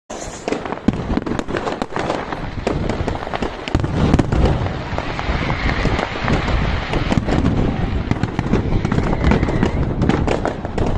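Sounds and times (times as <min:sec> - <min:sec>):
fireworks booming rumble: 0:00.1 - 0:10.9
fireworks crackling and popping: 0:00.1 - 0:10.9.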